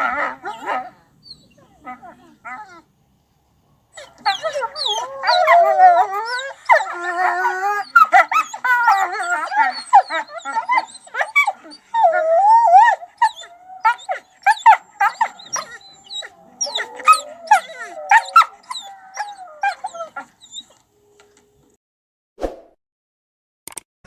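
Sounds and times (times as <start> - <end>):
wolves yipping and barking: 0.0 - 2.8, 4.0 - 20.8
wolves howling: 0.0 - 2.9, 3.9 - 20.8.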